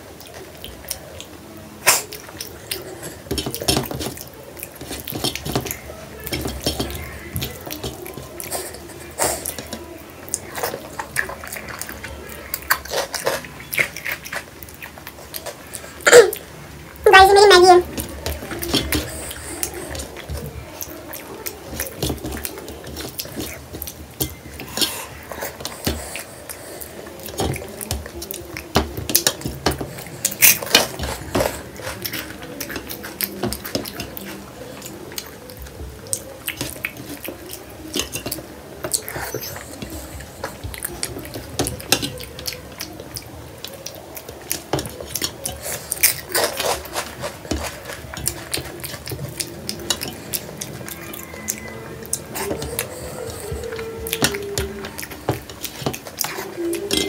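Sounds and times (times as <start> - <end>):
fingers scraping food on metal plate: 2.0 - 16.0, 17.3 - 57.0.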